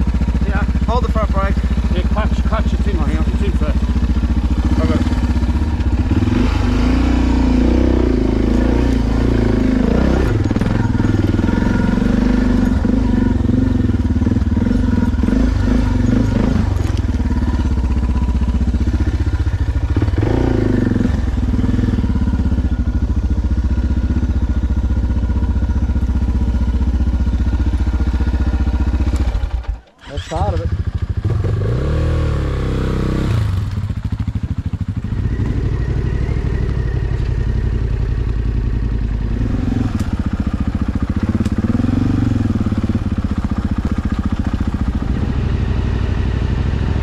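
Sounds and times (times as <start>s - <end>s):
motorcycle engine at low revs: 0.0s - 47.0s.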